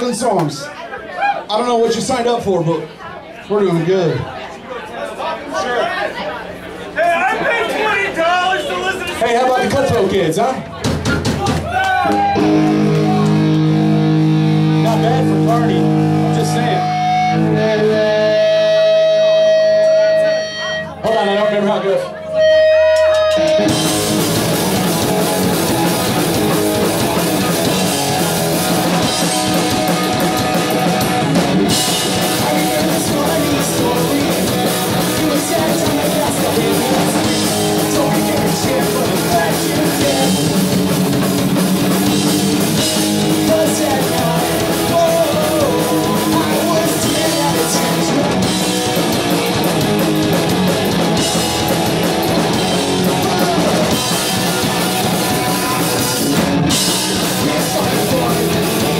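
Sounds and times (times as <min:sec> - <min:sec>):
punk rock band playing: 0:07.6 - 0:58.9.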